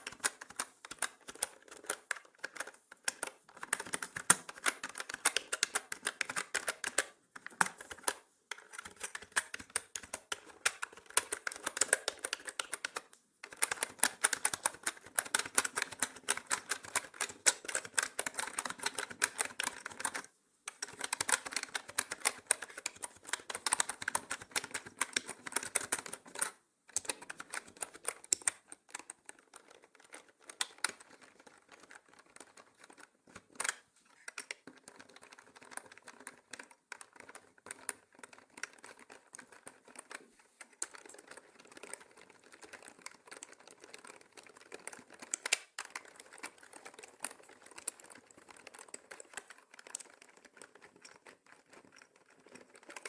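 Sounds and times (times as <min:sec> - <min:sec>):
mechanical keyboard typing: 0:00.0 - 0:53.0.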